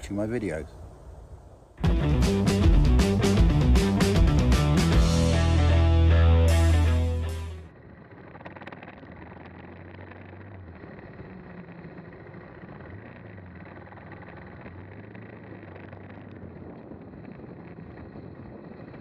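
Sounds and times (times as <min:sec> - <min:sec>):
wind: 0:00.0 - 0:19.0
motorcycle engine running: 0:01.8 - 0:19.0
tyre rumble: 0:01.8 - 0:19.0.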